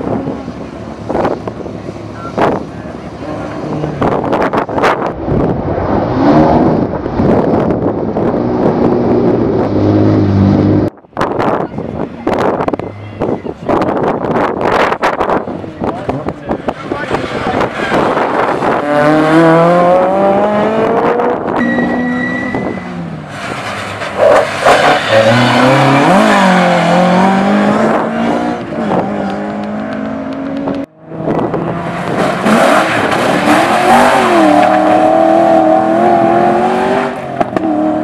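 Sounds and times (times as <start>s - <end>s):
rally car engines accelerating: 0.0s - 38.0s.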